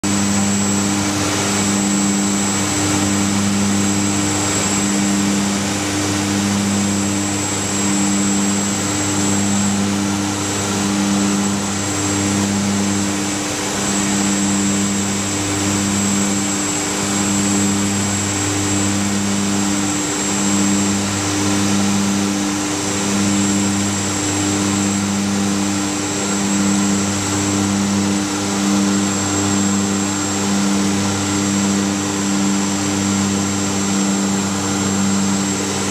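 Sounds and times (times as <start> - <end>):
propeller drone: 0.0 - 35.9
thin high whine: 0.0 - 35.9.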